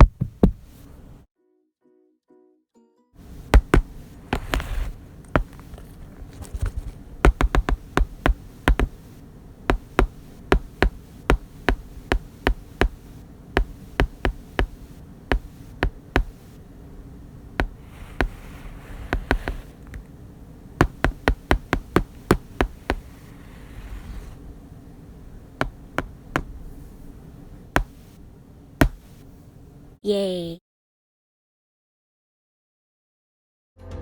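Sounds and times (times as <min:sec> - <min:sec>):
low steady hum: 0:00.0 - 0:01.3, 0:03.2 - 0:30.0.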